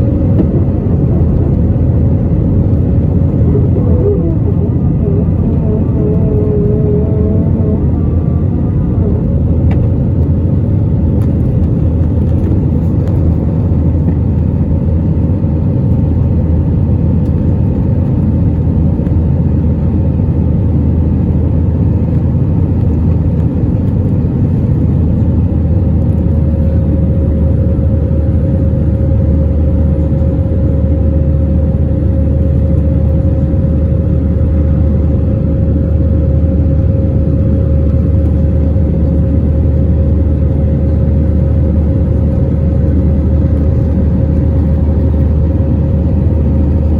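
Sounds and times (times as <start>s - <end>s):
faint steady whine: 0.0s - 46.9s
jet engines rumbling: 0.0s - 46.9s.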